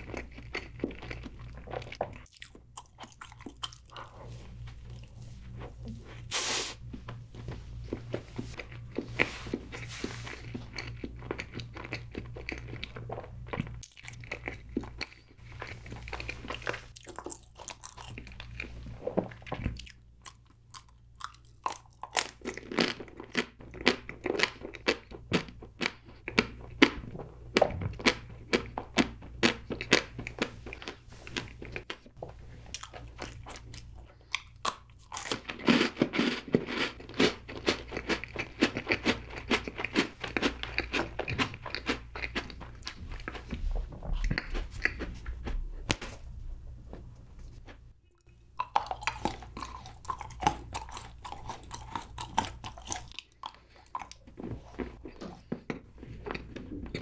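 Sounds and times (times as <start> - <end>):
chewing cake: 0.0 - 45.9, 47.6 - 57.0.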